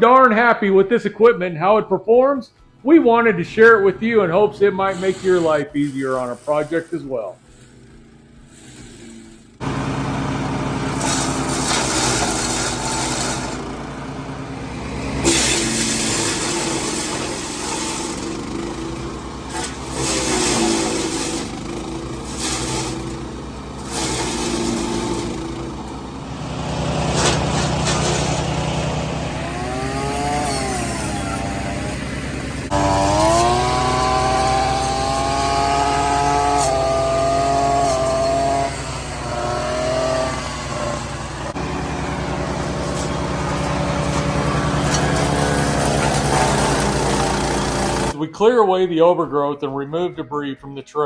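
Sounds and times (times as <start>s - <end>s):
small gasoline engine revving: 3.6s - 48.2s.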